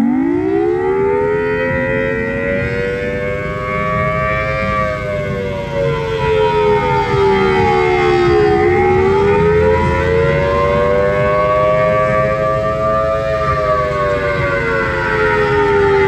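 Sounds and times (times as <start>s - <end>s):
tornado siren howling: 0.0s - 16.0s.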